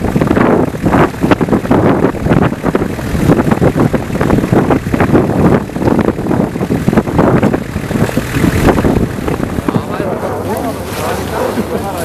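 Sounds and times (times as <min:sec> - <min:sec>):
lava eruption rumbling: 0:00.0 - 0:12.0.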